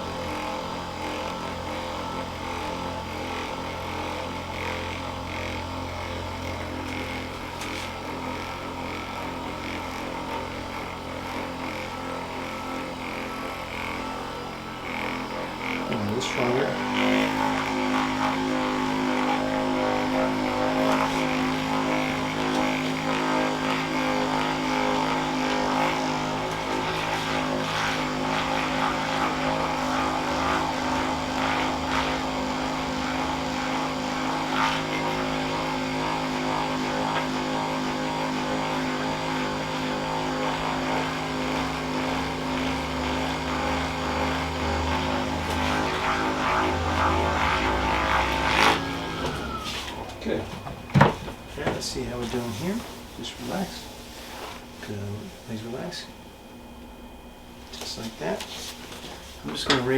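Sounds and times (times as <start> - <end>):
massager motor humming: 0.0 - 59.9.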